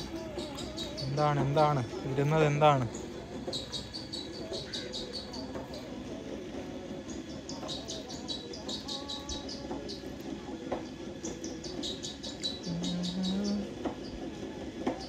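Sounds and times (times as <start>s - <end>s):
birds chirping: 0.0s - 14.3s.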